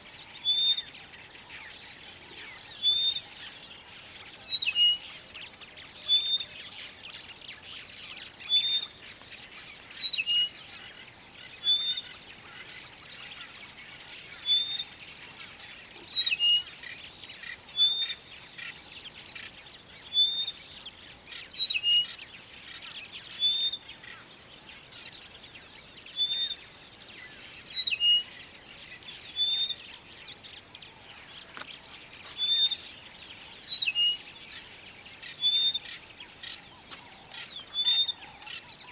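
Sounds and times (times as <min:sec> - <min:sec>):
high-pitched bird chatter: 0:00.0 - 0:25.4, 0:26.0 - 0:38.9.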